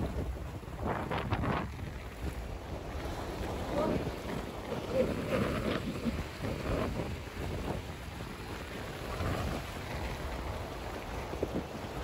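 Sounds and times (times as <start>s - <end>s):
feet wading in shallow water: 0.0s - 12.0s
wheelbarrow pushed through seawater: 0.0s - 12.0s
wind buffeting microphone: 0.0s - 12.0s.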